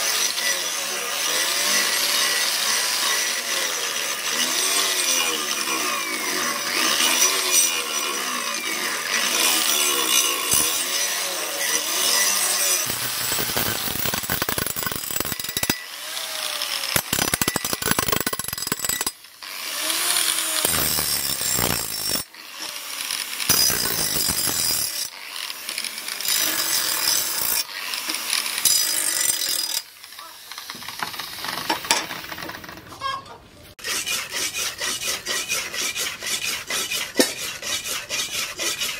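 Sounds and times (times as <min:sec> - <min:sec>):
angle grinder sanding steel: 0:00.0 - 0:32.3, 0:33.8 - 0:38.9.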